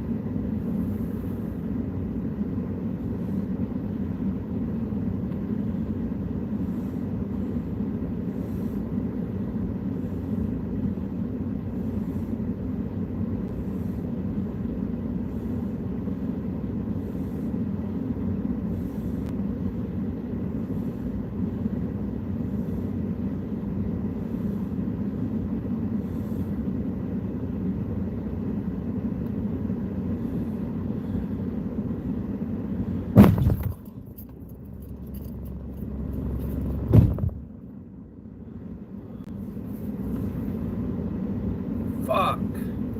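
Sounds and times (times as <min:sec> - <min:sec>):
motor vehicle rumble: 0:00.0 - 0:42.9.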